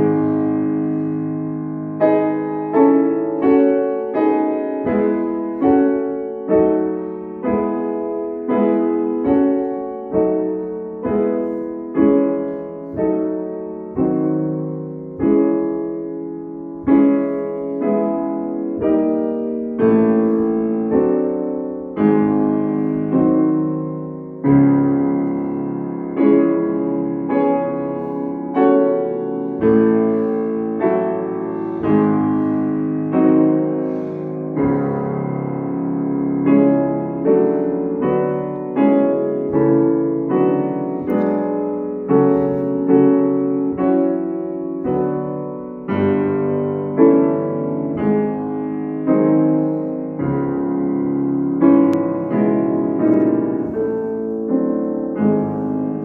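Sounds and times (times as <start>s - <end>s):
grand piano played slowly: 0.0s - 56.0s.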